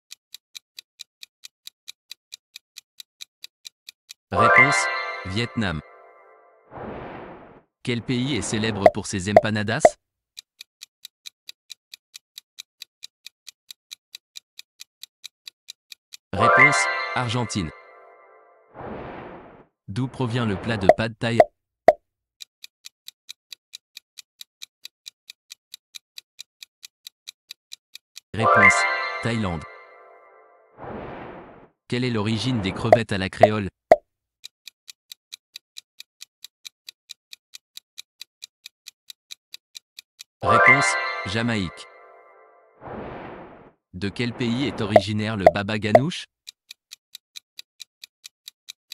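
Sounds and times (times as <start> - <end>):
clock-like ticking: 0.0 - 5.2, 7.9 - 21.5, 22.4 - 48.9.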